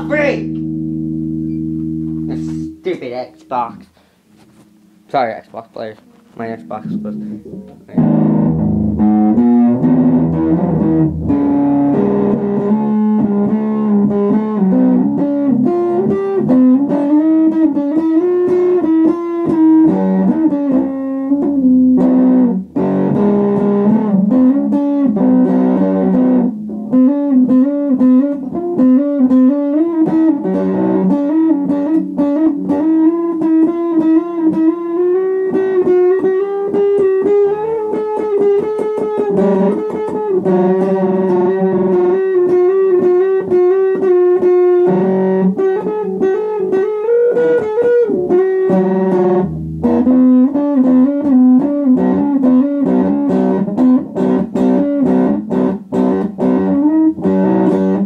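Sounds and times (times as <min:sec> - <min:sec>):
plucked guitar notes: 0:00.0 - 0:58.0.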